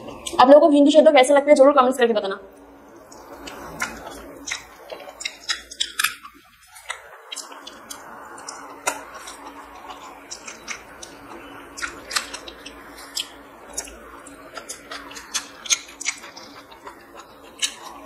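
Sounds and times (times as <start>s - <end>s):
person chewing with wet clicks: 0.0s - 0.4s, 2.5s - 18.0s.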